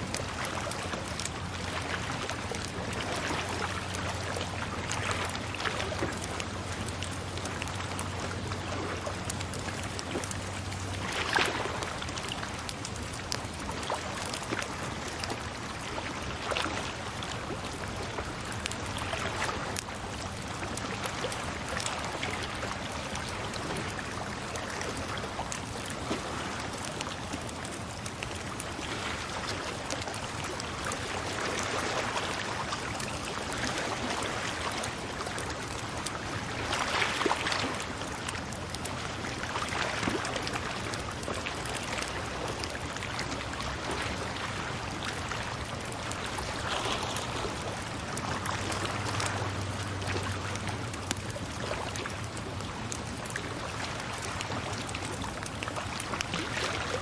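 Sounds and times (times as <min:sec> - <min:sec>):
water flowing and splashing: 0:00.0 - 0:57.0.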